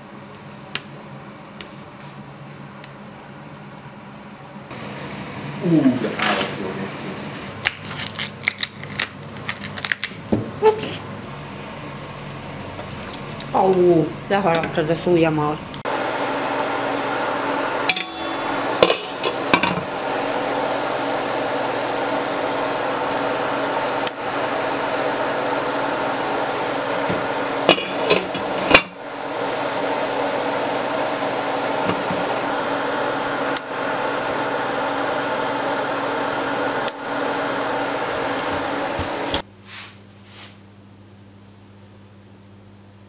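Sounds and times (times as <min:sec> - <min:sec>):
kitchen hum: 0:00.0 - 0:43.0.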